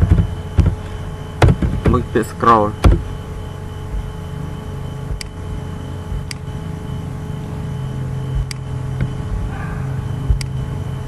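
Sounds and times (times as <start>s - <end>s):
faint high whine: 0.0s - 11.0s
steady low hum: 0.0s - 11.0s.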